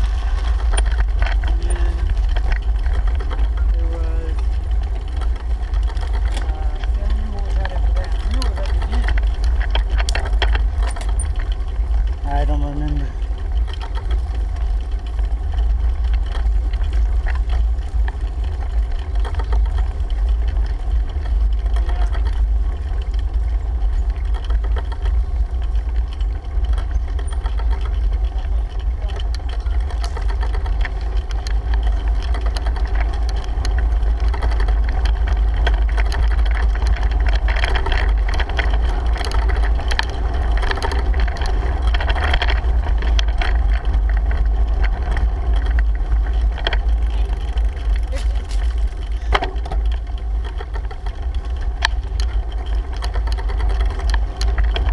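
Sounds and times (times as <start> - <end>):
bicycle road noise: 0.0 - 54.9
small rattles: 0.0 - 54.9
wind buffeting camera: 0.0 - 54.9.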